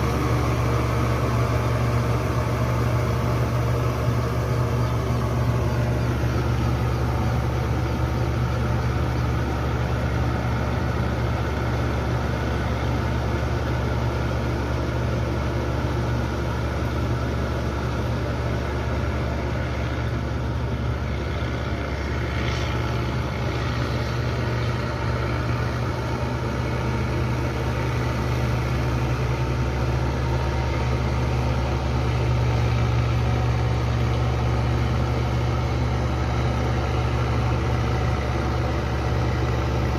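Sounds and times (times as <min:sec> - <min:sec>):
farm machinery engine humming: 0:00.0 - 0:39.9.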